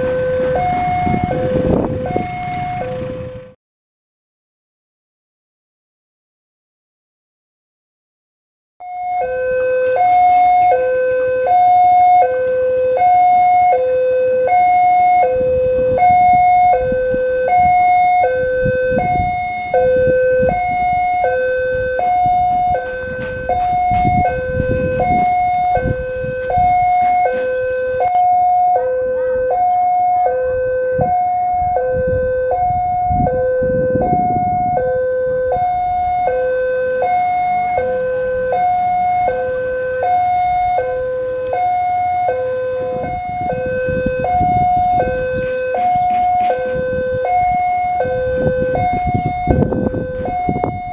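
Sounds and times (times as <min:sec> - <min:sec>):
passing vehicles rumbling: 0:00.0 - 0:03.6, 0:08.8 - 0:50.9
two-tone level crossing alarm: 0:00.0 - 0:03.6, 0:08.8 - 0:50.9.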